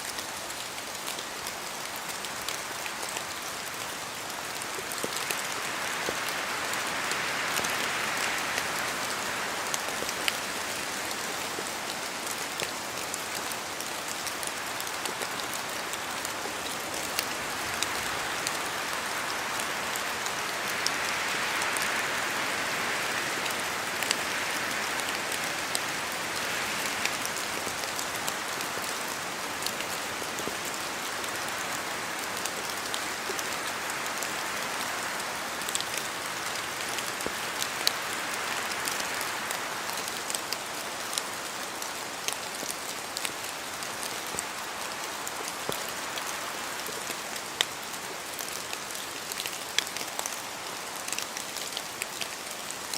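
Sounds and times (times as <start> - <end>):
rain hiss in forest: 0.0 - 52.9.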